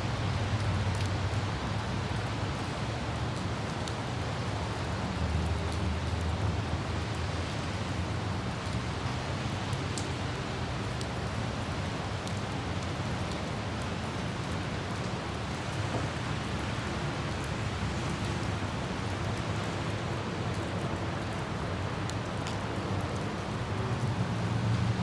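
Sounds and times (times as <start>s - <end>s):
light rain droplets: 0.0s - 25.0s
road traffic rumble: 0.0s - 25.0s
wind: 0.0s - 25.0s.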